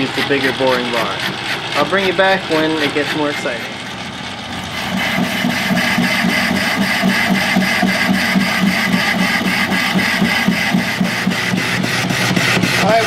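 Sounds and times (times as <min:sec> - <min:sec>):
metal lathe cutting: 0:00.0 - 0:13.0.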